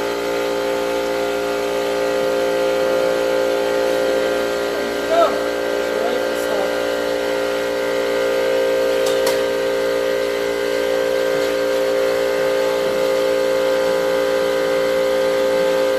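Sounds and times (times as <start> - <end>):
steady machine hum: 0.0 - 15.9.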